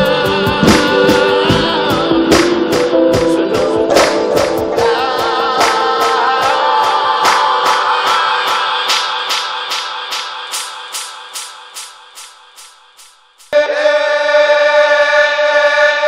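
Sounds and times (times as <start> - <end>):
hip-hop beat: 0.0 - 14.0.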